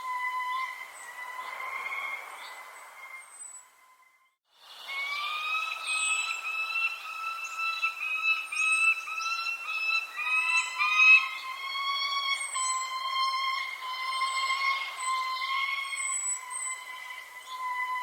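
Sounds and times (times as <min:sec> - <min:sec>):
bird whistling tone: 0:00.0 - 0:18.0
high falling bird chirps: 0:00.0 - 0:18.0.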